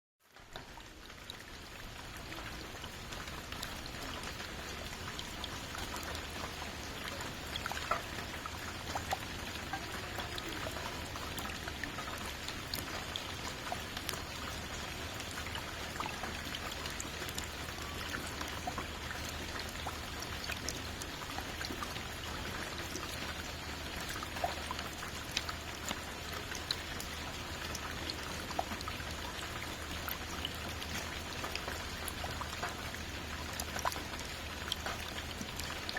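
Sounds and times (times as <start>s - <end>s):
raindrops ticking on hard surface: 0.3s - 35.9s.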